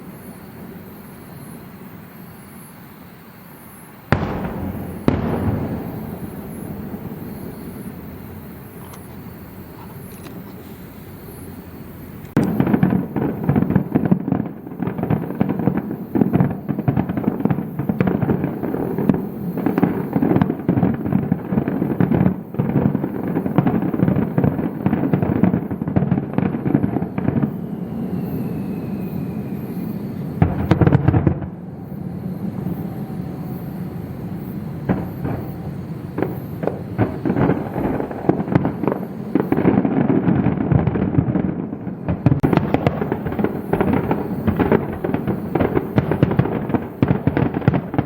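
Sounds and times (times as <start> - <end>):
fireworks bursting: 0.0 - 48.0.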